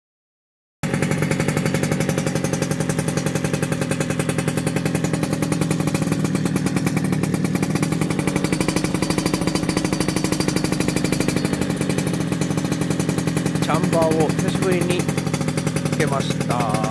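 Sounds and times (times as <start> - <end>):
two-stroke engine idling: 0.8 - 16.9.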